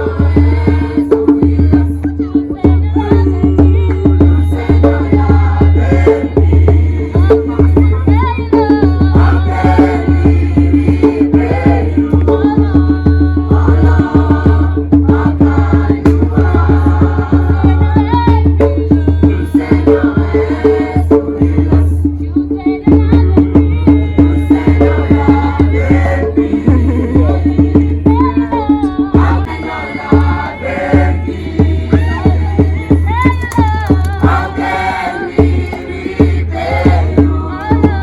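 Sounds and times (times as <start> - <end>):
music with percussive beat: 0.0 - 38.0.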